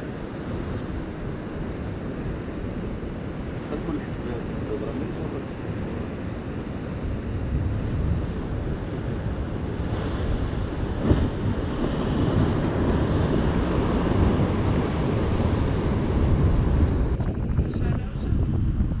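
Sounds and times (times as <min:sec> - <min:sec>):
sea surf rolling in: 0:00.0 - 0:17.2
wind buffeting microphone: 0:00.0 - 0:19.0.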